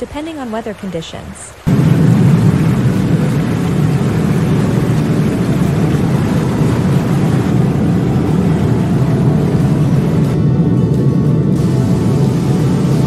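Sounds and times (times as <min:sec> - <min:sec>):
loud steady rushing noise: 0:01.6 - 0:13.0.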